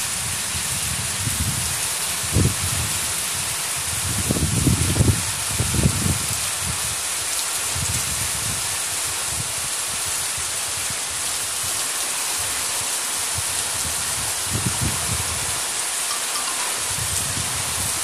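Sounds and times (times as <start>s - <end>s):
heavy rain on roofs and trees: 0.0s - 18.0s.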